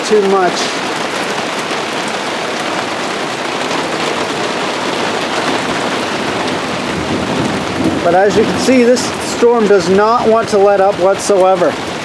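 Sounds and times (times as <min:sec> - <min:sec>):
heavy rain pelting surfaces: 0:00.0 - 0:12.0.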